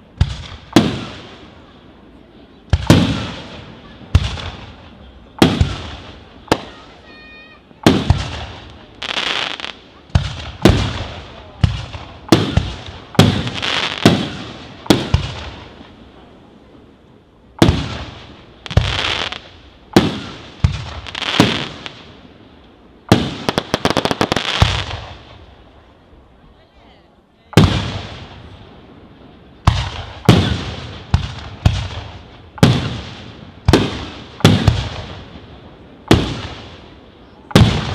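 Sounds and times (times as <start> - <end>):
fireworks bursting with bangs: 0.0 - 26.4, 27.5 - 37.9.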